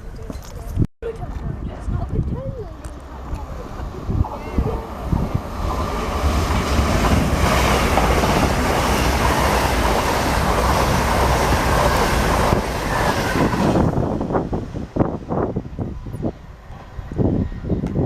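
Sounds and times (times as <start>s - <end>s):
train passing: 1.7s - 18.0s.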